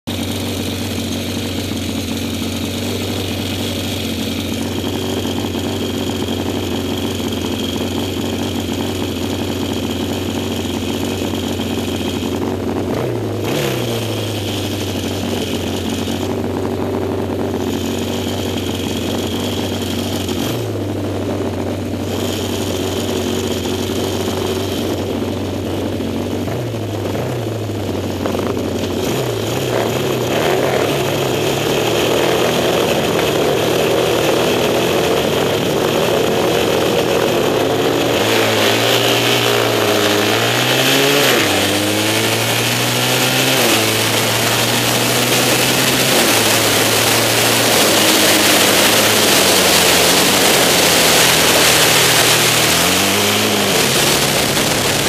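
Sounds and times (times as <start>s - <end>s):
engine throttle blips: 0.0s - 55.0s
motorcycle engine idling: 0.0s - 55.0s.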